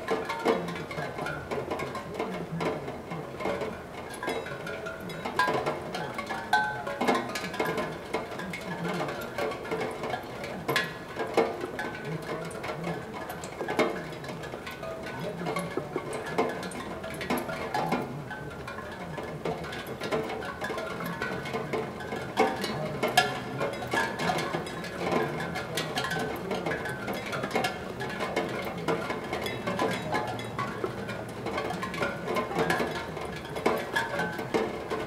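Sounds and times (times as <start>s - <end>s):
raindrops tapping: 0.0s - 35.0s.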